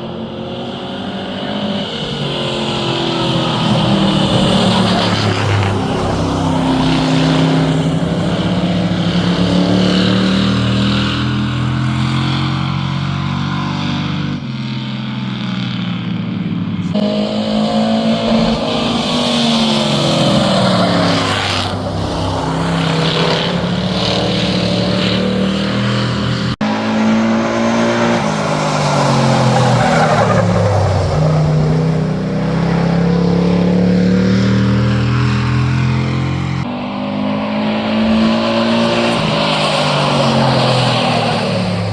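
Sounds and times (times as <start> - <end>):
race car engines revving past: 0.0 - 41.9.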